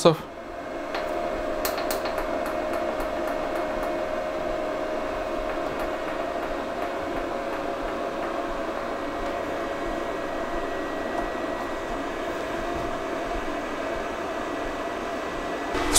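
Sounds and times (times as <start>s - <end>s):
cooling fan whirring hum: 0.0s - 15.9s.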